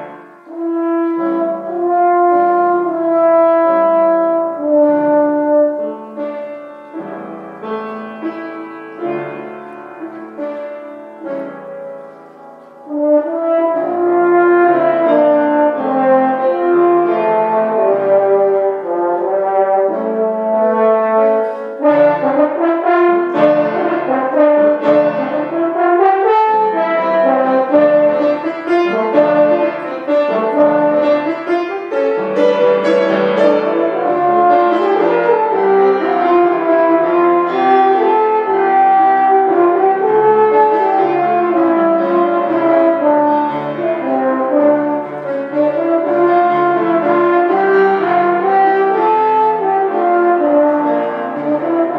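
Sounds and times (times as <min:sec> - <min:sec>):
french horn melody: 0:00.0 - 0:51.9
instrumental accompaniment: 0:00.0 - 0:51.9.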